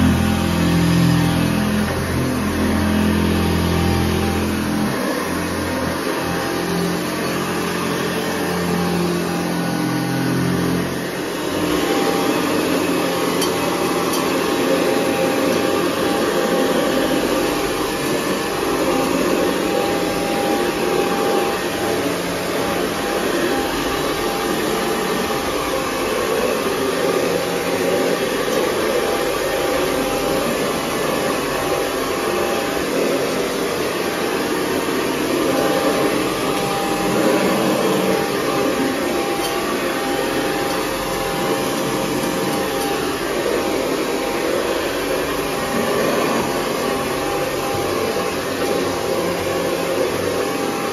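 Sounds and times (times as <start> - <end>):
vacuum cleaner on carpet: 0.0 - 50.9.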